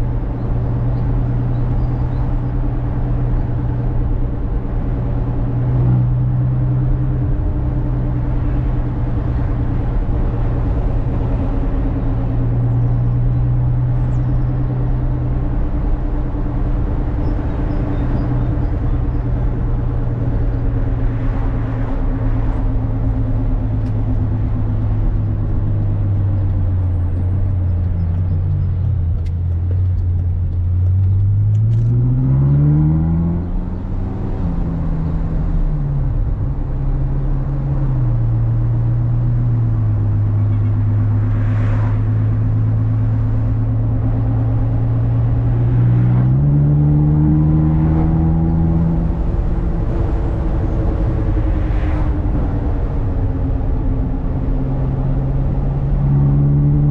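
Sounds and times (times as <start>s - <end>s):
car engine: 0.0s - 56.9s.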